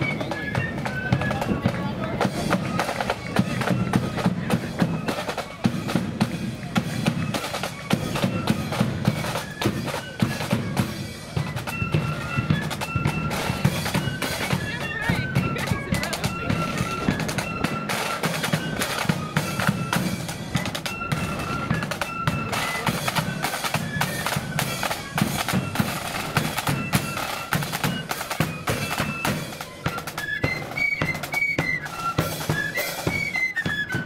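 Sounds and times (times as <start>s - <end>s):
flutes playing a tune: 0.0s - 34.0s.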